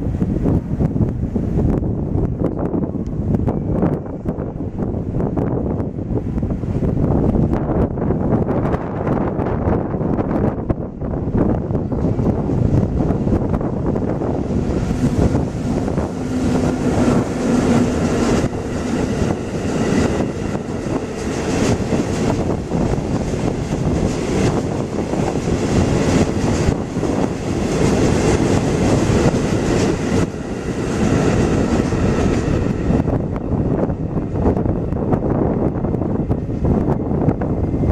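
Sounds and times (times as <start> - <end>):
freight train rumbling past: 0.0 - 37.9.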